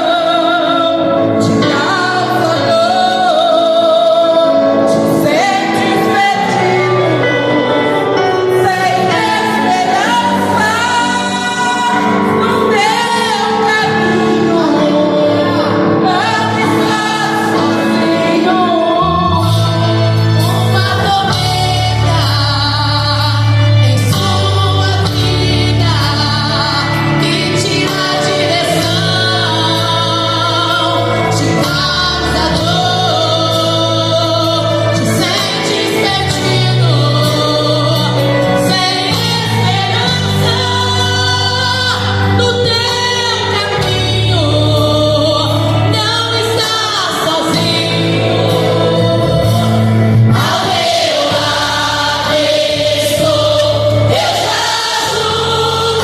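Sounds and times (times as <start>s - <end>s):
gospel choir singing: 0.0s - 56.0s
instrumental accompaniment with bass: 0.0s - 56.0s.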